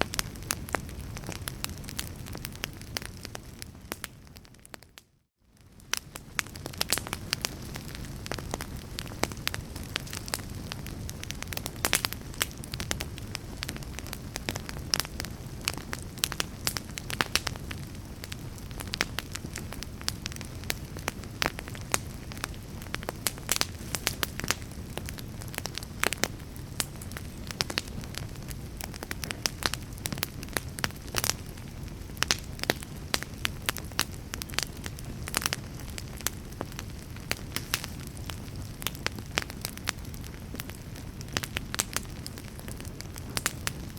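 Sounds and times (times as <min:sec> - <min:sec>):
fire popping and snapping: 0:00.0 - 0:43.9
low rumble of burning: 0:00.0 - 0:43.9.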